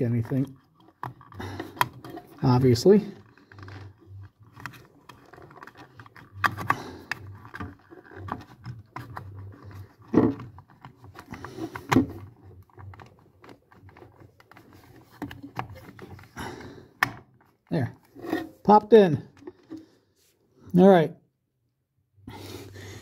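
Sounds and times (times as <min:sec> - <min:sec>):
scraping and clicking of wires and plastic: 0:00.0 - 0:20.2.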